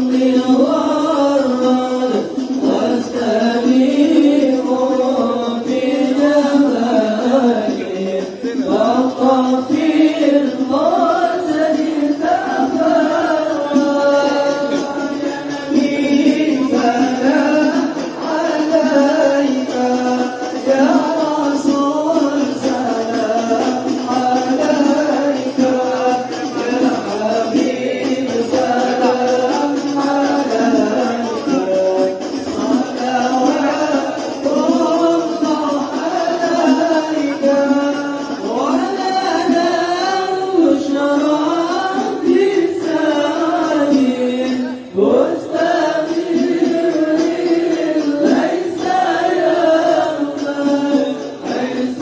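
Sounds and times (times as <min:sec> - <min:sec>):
group of young men singing: 0:00.0 - 0:52.0.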